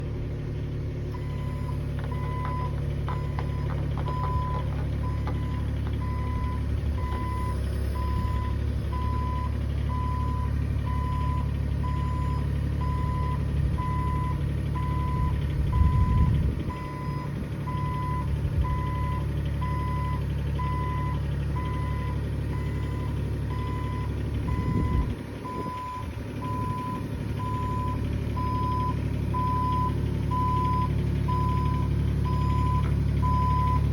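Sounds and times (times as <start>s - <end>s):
excavator diesel engine running: 0.0s - 33.9s
travel alarm beeping: 1.1s - 33.9s.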